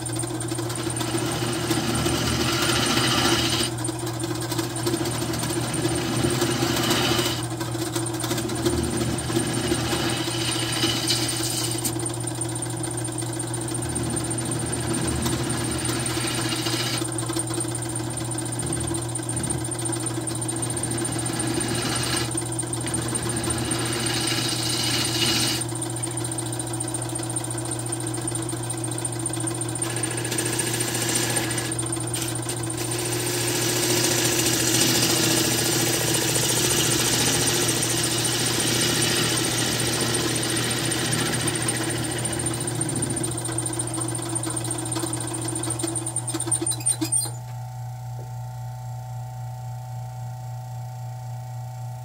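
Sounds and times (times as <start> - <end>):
wood lathe humming: 0.0 - 47.5.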